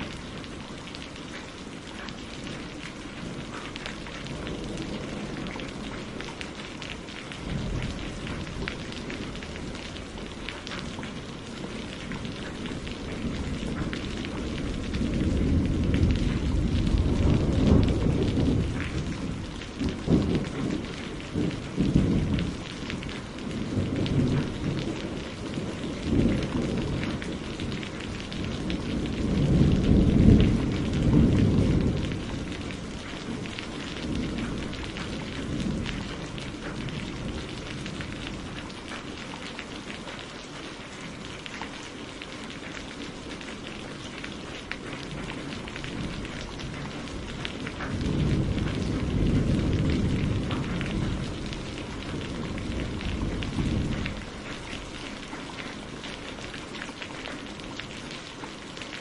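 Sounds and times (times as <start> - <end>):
steady rain: 0.0 - 59.0
rolling thunder: 2.4 - 39.1, 44.5 - 56.2.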